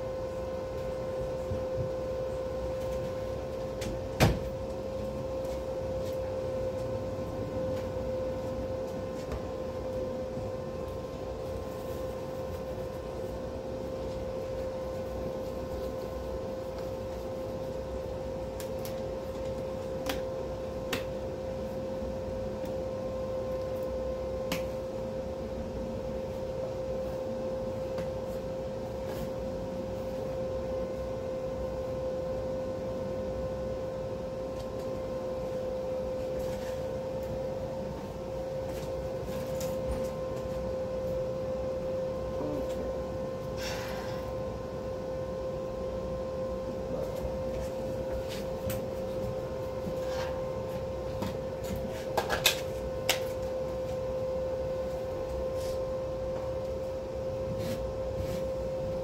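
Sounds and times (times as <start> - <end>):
welder humming: 0.0 - 59.0.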